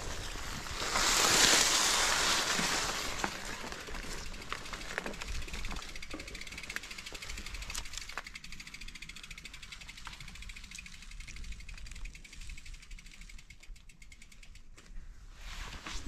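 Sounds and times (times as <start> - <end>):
bike freewheel ticking: 0.1 - 14.9
bike clicks and knocks: 0.8 - 15.0.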